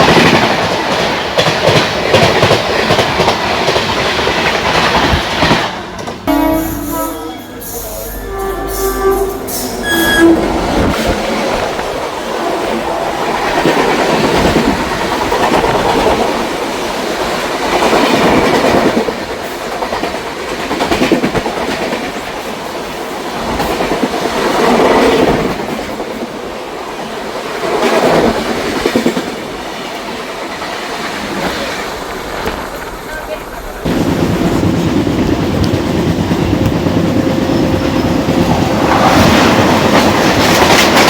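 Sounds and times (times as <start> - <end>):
train wheels clattering over rails: 0.0 - 6.3, 10.4 - 41.0.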